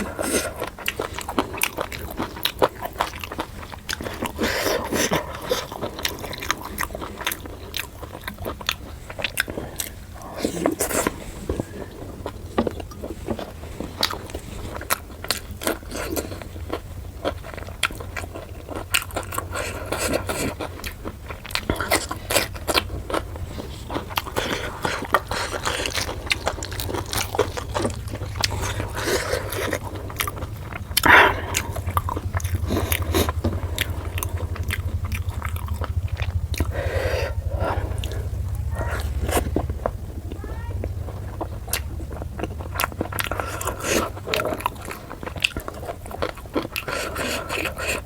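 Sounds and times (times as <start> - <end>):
chewing and biting: 0.0 - 48.0
steady low hum: 0.0 - 48.0.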